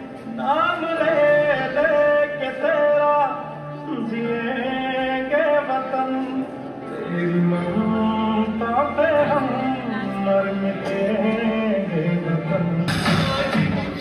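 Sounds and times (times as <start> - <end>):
dance song through loudspeakers: 0.0 - 14.0.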